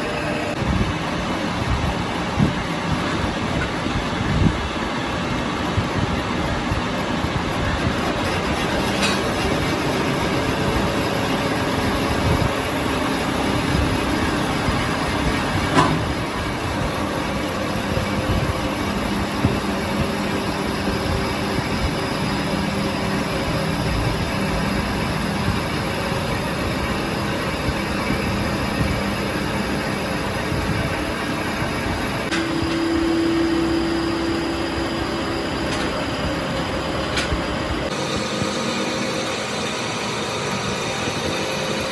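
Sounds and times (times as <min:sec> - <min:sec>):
workshop machinery rumbling: 0:00.0 - 0:41.9.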